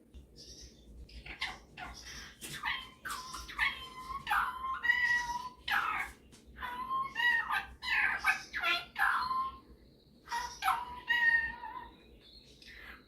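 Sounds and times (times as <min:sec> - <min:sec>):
parrot calls and chatter: 0:00.2 - 0:13.0.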